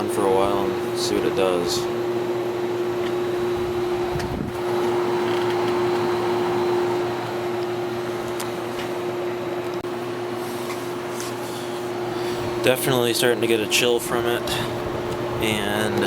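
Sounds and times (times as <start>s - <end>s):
air conditioner humming: 0.0s - 16.0s
airflow noise: 0.4s - 16.0s.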